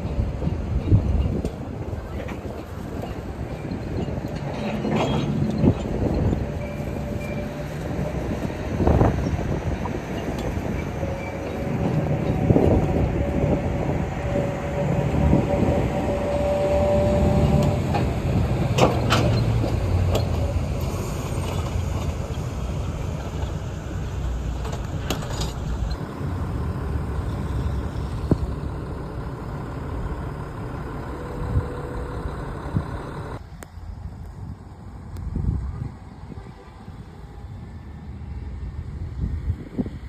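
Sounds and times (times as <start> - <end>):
steady whine: 0.0 - 35.3
subway train rumble: 0.0 - 40.0.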